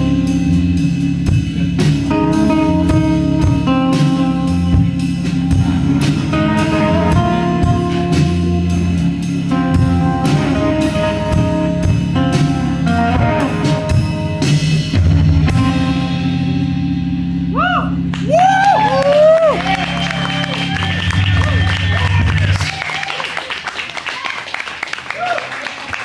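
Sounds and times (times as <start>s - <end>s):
sustained guitar notes: 0.0s - 22.6s
drum kit beat: 0.0s - 23.1s.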